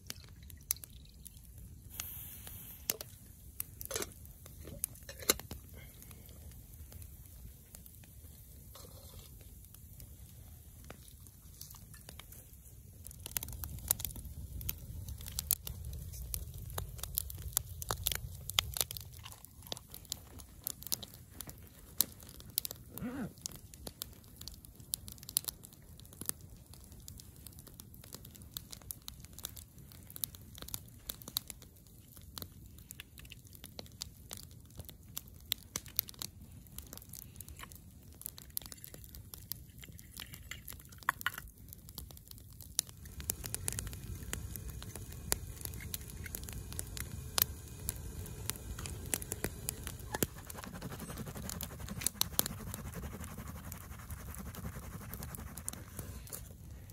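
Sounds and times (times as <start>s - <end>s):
campfire crackling and popping: 0.0s - 56.9s.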